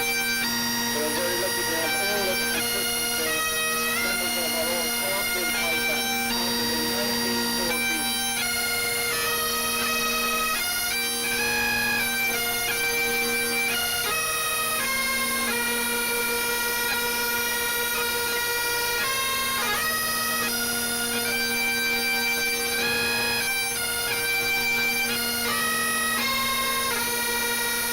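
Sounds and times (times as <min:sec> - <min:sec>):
bagpipes playing a tune: 0:00.0 - 0:27.9.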